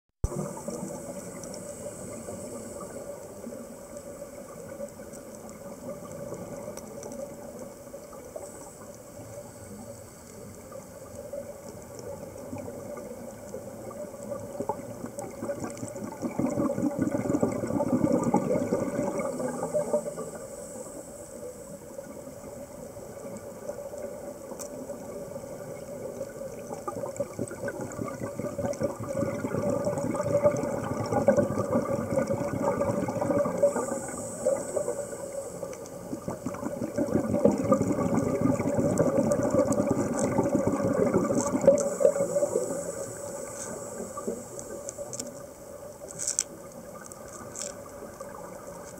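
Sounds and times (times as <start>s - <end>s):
regulator bubbles gurgling: 0.2s - 48.9s
underwater hiss and hum: 0.2s - 48.9s.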